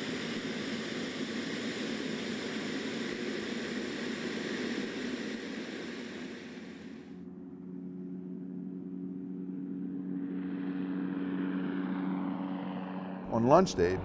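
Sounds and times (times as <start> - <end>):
turboprop engine running: 0.0 - 14.0.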